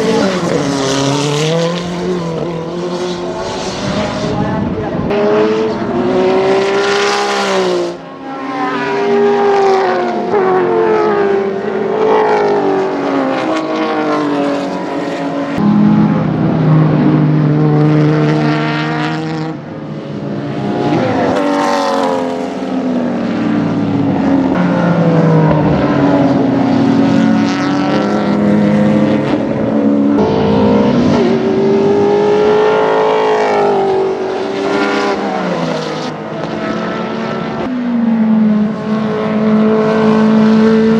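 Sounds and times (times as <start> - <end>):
racing car engines at full throttle: 0.0 - 40.9.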